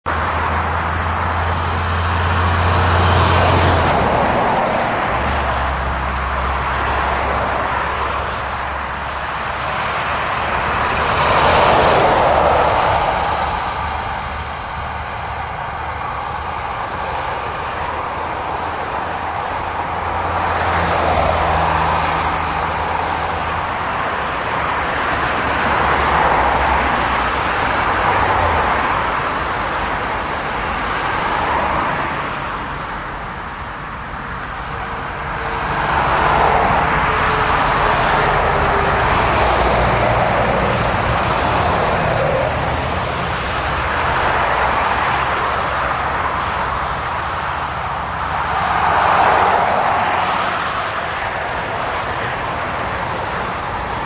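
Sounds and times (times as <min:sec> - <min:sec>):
diesel engine drone: 0:00.0 - 0:54.0
vehicles passing: 0:00.0 - 0:54.0.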